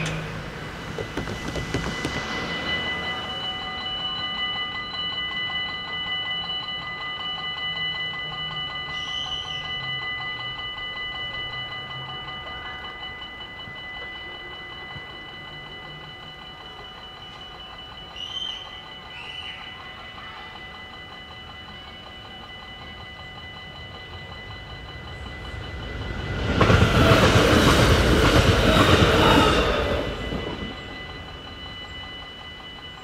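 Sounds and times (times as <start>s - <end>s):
level-crossing warning bell: 0.0s - 33.0s.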